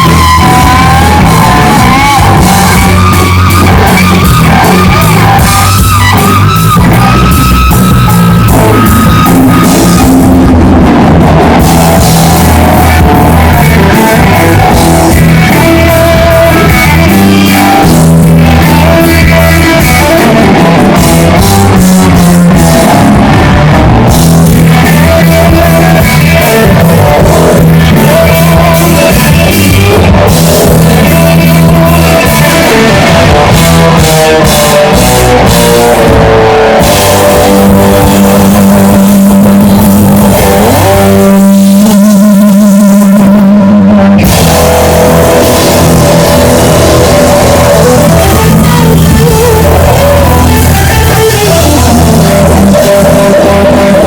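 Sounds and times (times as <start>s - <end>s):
bass guitar: 0.0s - 54.0s
drum kit: 0.0s - 54.0s
electric guitar: 0.0s - 54.0s
person singing: 0.0s - 54.0s.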